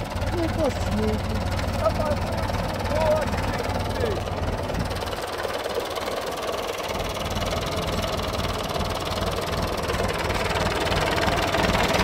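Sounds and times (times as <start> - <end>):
old tractor engine running: 0.0 - 12.0.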